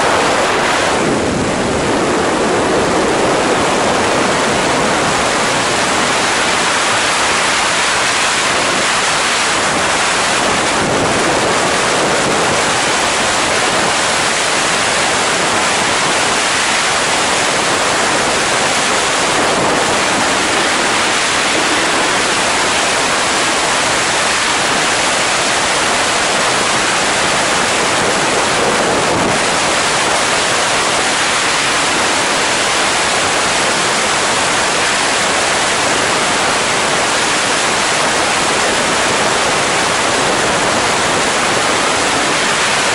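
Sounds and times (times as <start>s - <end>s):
freefall wind rushing: 0.0s - 42.9s.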